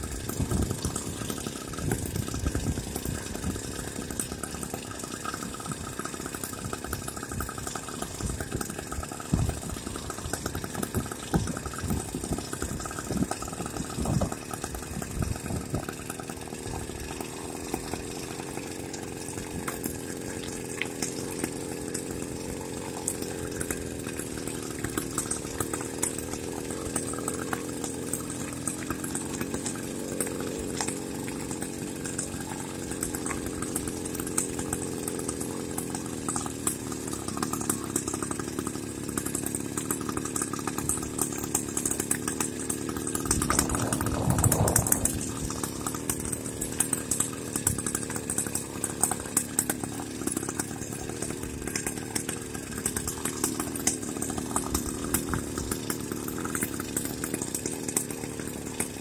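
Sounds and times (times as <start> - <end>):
small motorized bicycle engine: 0.0 - 59.0.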